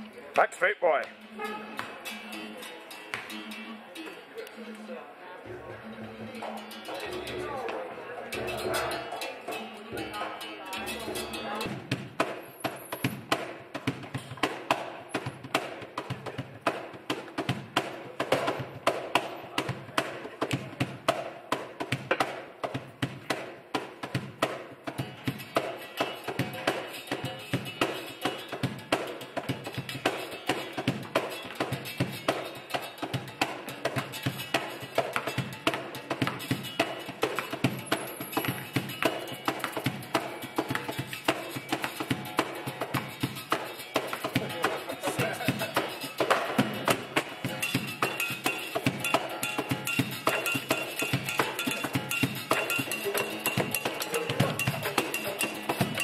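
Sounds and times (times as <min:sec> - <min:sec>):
hand percussion on wooden boxes: 0:01.1 - 0:04.2, 0:05.5 - 0:56.0.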